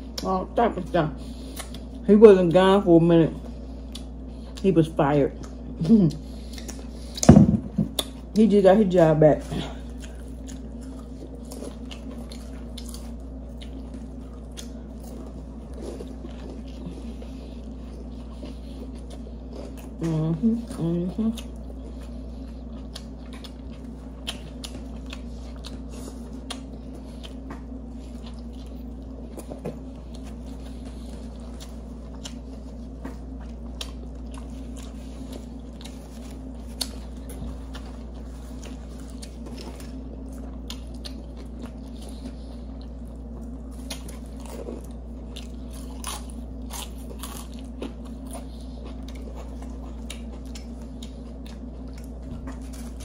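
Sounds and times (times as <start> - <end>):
people chewing with crunches: 0.0 - 53.0
steady low hum: 0.0 - 53.0.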